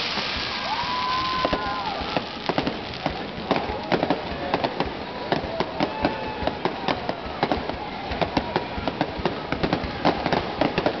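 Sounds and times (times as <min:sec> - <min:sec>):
fireworks bangs and crackling bursts: 0:00.0 - 0:11.0.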